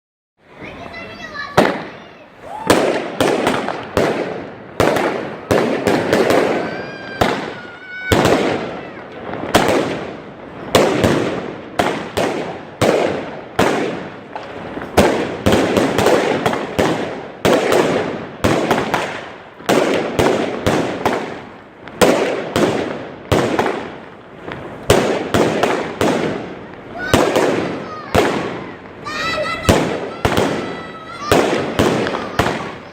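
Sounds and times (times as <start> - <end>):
fireworks bangs echoing: 0.4 - 32.9.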